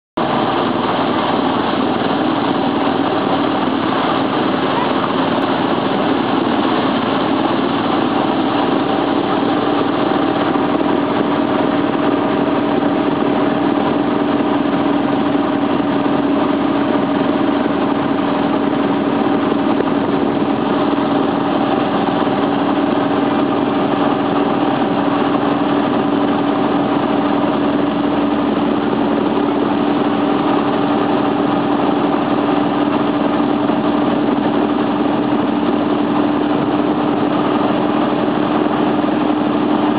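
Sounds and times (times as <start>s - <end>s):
motorboat engine droning: 0.2s - 39.9s
water rushing in wake: 0.2s - 39.9s.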